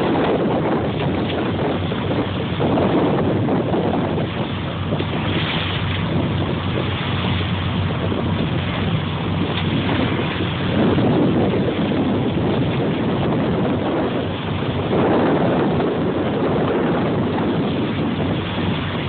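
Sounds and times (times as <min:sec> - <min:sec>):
boat engine humming: 0:00.0 - 0:19.0
sea water washing: 0:00.0 - 0:19.0
wind buffeting microphone: 0:00.0 - 0:19.0.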